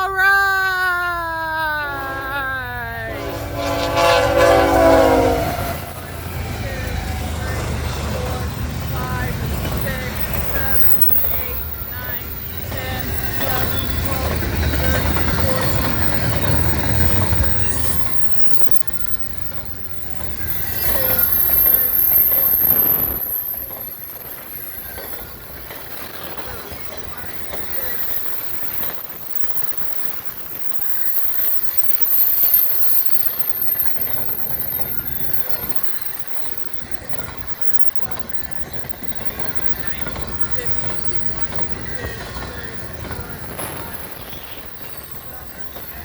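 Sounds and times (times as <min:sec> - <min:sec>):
freight train rumbling past: 0:00.0 - 0:46.0
train wheel clatter: 0:03.2 - 0:46.0.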